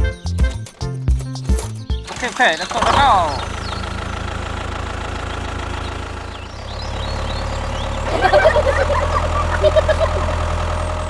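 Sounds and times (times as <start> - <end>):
small tractor motor humming: 2.1 - 11.0.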